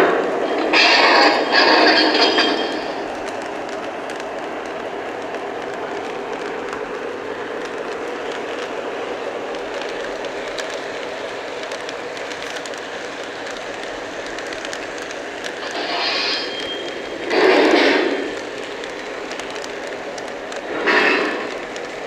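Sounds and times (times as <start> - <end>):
wheels clicking over rails: 0.0 - 22.0.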